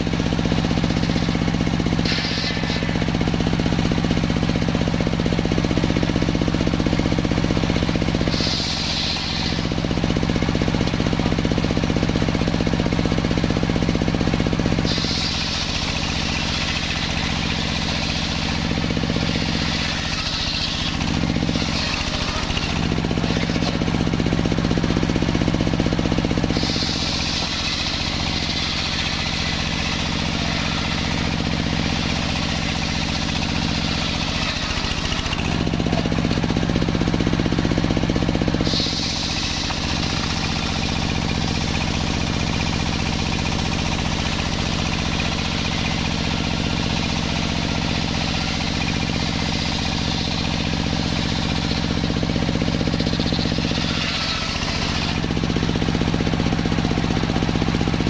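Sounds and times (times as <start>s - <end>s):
circular saw blade cutting wood: 0.0s - 4.5s, 6.7s - 11.5s, 14.4s - 57.4s
saw motor running: 0.0s - 58.0s.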